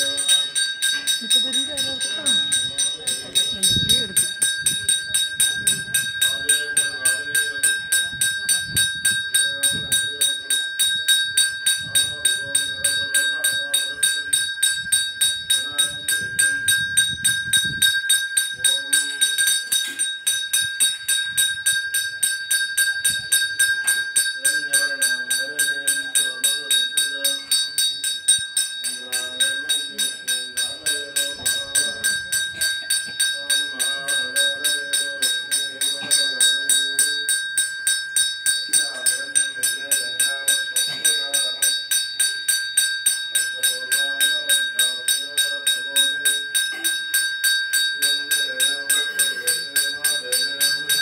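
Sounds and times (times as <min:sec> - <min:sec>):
bell rung rapidly: 0:00.0 - 0:51.0.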